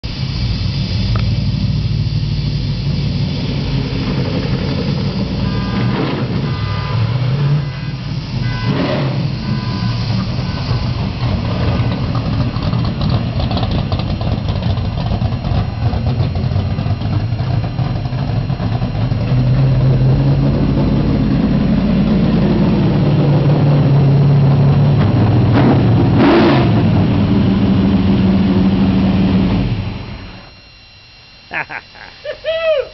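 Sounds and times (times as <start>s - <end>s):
race car engine running loud: 0.0s - 31.4s
engine throttle blips: 0.0s - 32.9s.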